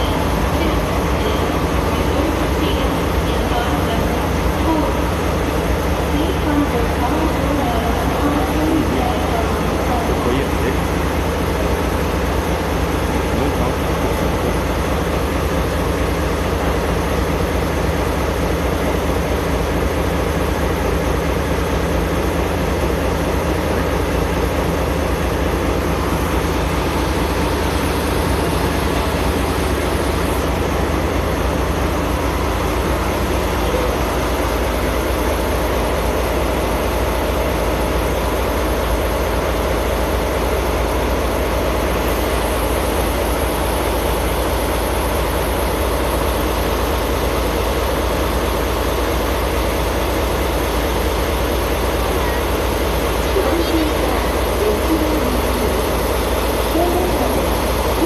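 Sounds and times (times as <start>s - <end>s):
diesel locomotive engine idling: 0.0s - 58.0s.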